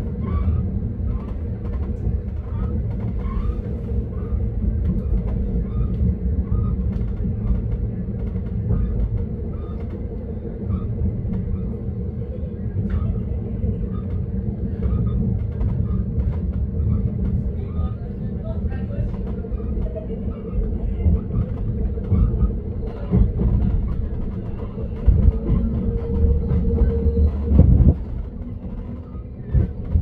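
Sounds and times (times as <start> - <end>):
train rumbling on board: 0.0 - 30.0.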